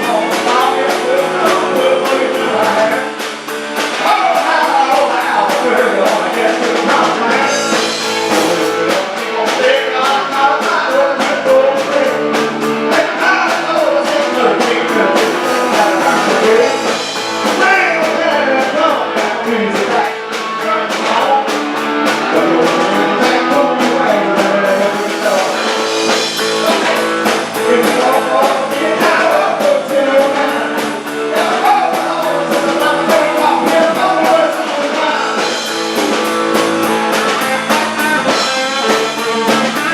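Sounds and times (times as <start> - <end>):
drums: 0.0 - 39.9
guitar: 0.0 - 39.9.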